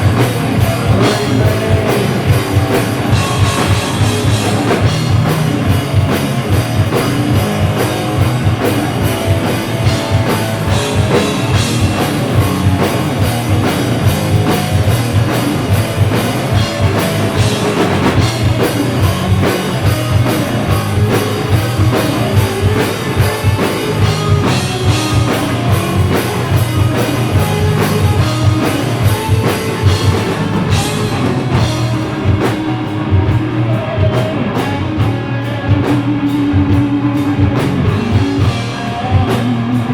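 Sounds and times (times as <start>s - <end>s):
distorted guitar and bass: 0.0s - 39.9s
driving drum kit: 0.0s - 39.9s.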